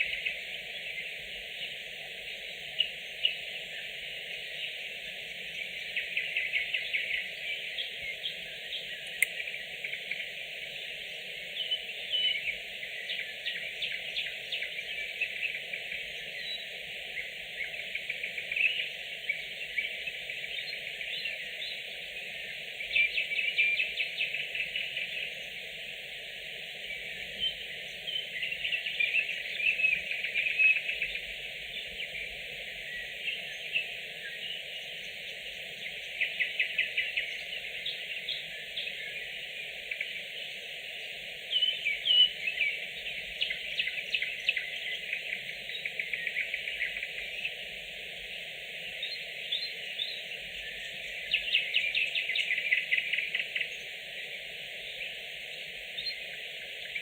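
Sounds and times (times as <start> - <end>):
nightingale song: 0.0 - 57.0.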